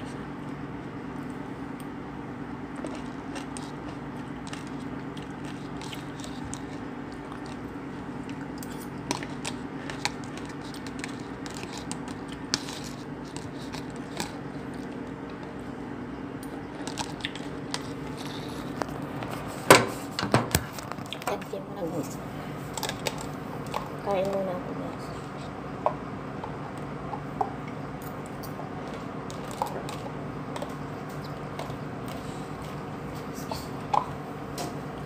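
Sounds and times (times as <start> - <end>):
person chewing fruit: 0.0 - 19.6, 25.0 - 34.3
steady low hum: 0.0 - 35.0.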